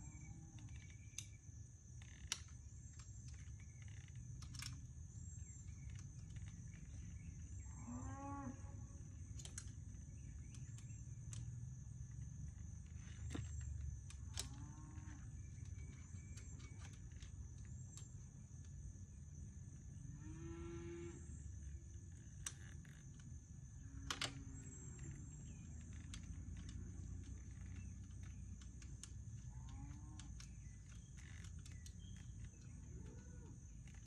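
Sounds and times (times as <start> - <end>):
insect chorus: 0.0 - 34.0.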